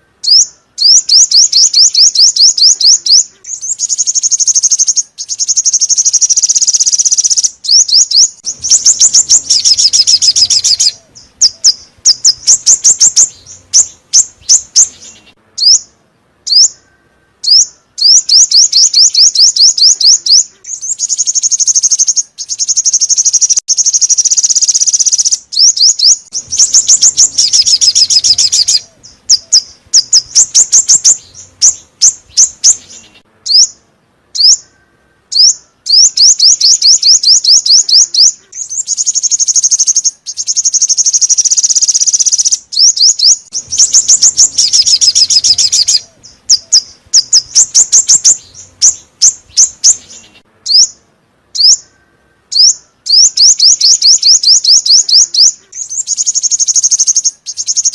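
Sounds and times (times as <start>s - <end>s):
songbird trilling: 0.0s - 57.9s.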